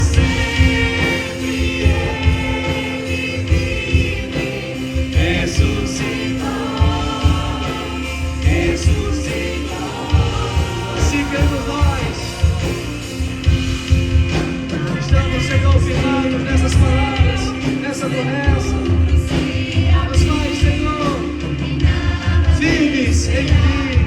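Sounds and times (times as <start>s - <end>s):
band with bass and beat: 0.0s - 24.0s
choir singing gospel music: 0.0s - 24.0s.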